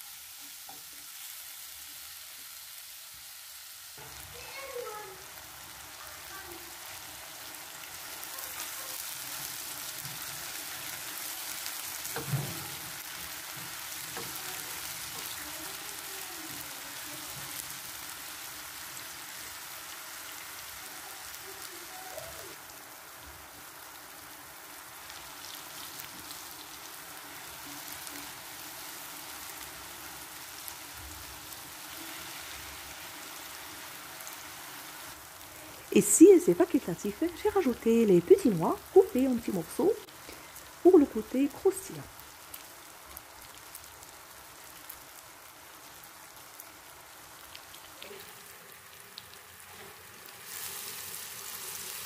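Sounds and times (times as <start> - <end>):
apples sizzling in a frying pan: 0.0 - 52.0.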